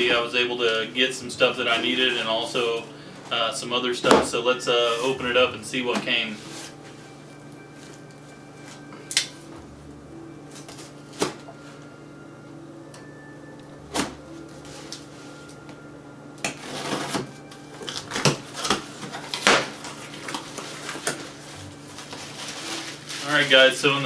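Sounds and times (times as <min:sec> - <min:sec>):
cardboard and packing rustling: 0:00.0 - 0:08.9, 0:10.5 - 0:11.9, 0:13.8 - 0:15.6, 0:16.5 - 0:24.0.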